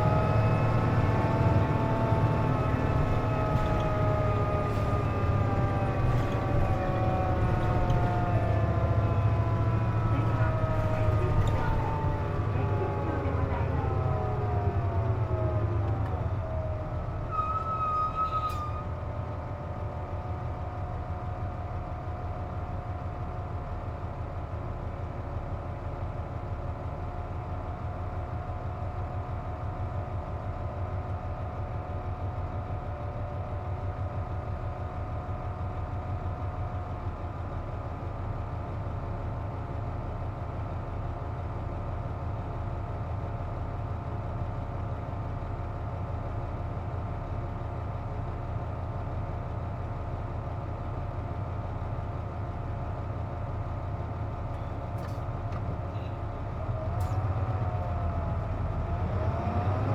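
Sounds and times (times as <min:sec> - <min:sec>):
diesel bus engine: 0:00.0 - 0:59.9.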